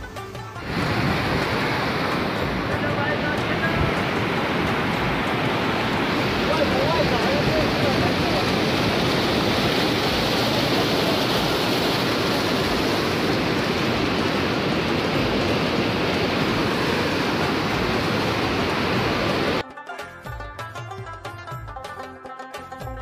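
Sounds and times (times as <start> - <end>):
river rushing over rocks: 0.6 - 19.6.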